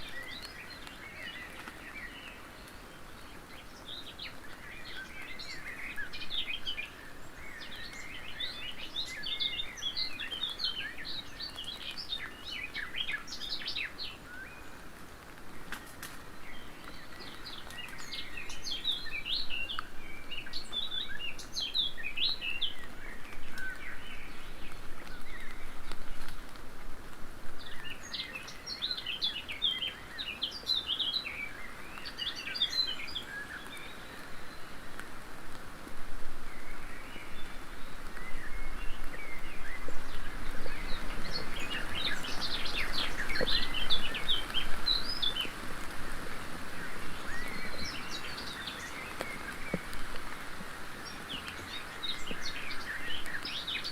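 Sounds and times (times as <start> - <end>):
background hiss: 0.0 - 53.9
songbird chirping: 0.0 - 53.9.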